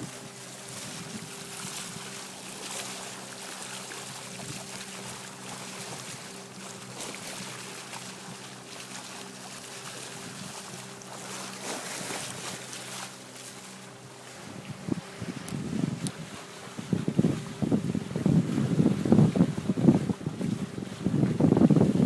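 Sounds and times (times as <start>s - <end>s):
water rushing along hull: 0.0s - 22.0s.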